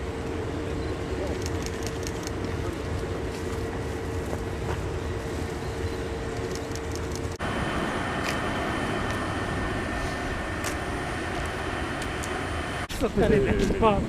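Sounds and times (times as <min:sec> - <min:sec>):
electric train rumble: 0:00.0 - 0:14.0
train hum with whining tones: 0:00.0 - 0:14.0.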